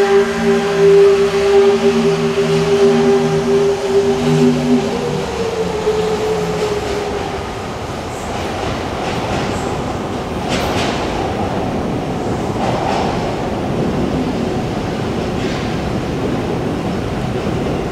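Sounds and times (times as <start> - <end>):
train wheels rolling: 0.0 - 17.9.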